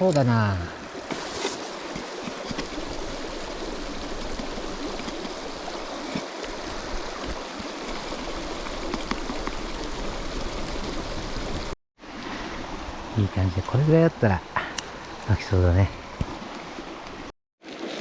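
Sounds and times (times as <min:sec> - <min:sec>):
river running over stones: 0:00.0 - 0:18.0.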